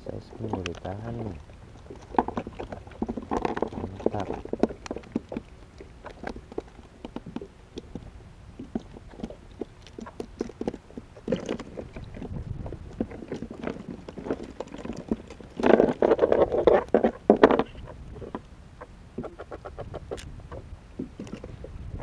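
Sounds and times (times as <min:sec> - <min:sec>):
knocks and clicks in kayak: 0:00.4 - 0:22.0.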